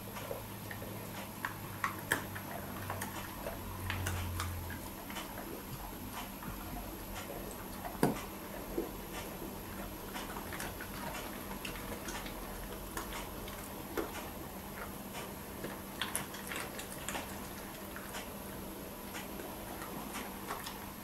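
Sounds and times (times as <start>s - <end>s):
dog chewing food: 0.0s - 21.0s.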